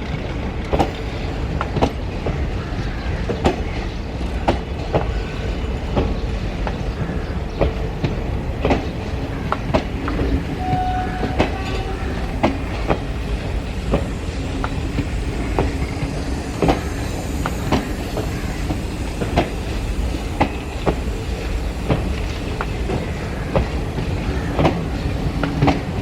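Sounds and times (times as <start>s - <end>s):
train coaches rumbling: 0.0s - 26.0s.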